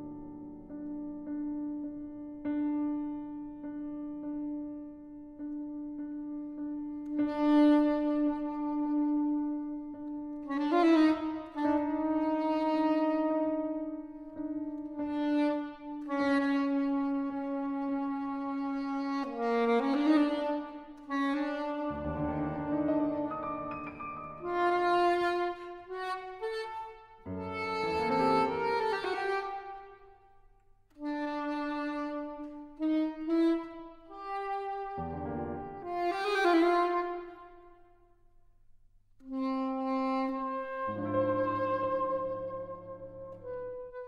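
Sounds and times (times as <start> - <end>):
saxophone quartet music: 6.3 - 30.2, 30.9 - 37.8, 39.2 - 44.0.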